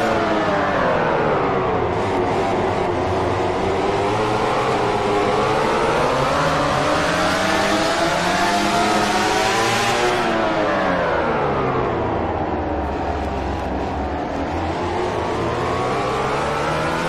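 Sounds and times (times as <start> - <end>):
racing motorcycle engine revving: 0.0 - 17.0.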